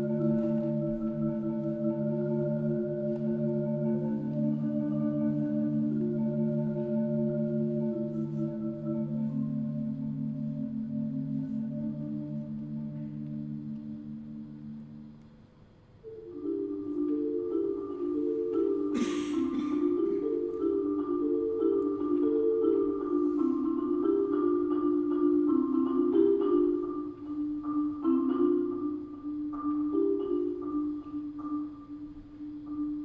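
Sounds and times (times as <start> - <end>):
marimba rolled chords: 0.0 - 15.2, 16.0 - 33.0.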